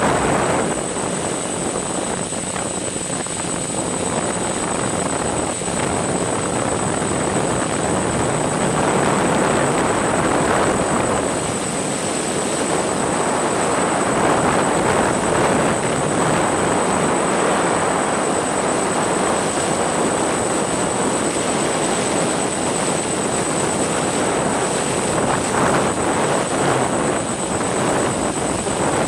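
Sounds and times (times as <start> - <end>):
drone propellers whirring: 0.0 - 29.0
high whine: 0.0 - 29.0.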